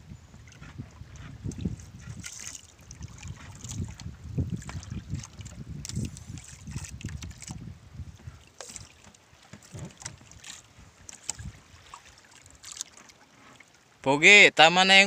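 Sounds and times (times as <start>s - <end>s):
water sloshing against boat hull: 0.1s - 14.0s.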